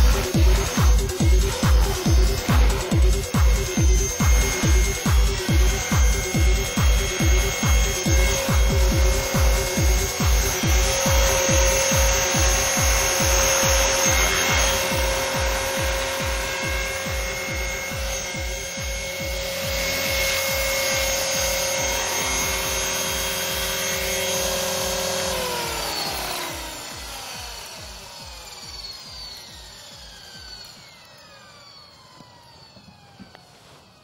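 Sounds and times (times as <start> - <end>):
rotor beating: 0.0 - 32.9
helicopter motor whining: 0.0 - 34.0.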